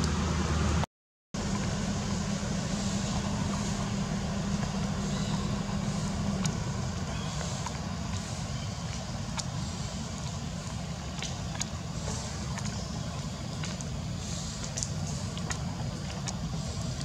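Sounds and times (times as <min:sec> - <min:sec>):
outdoor background noise: 0:00.0 - 0:17.0
low hum: 0:01.4 - 0:17.0.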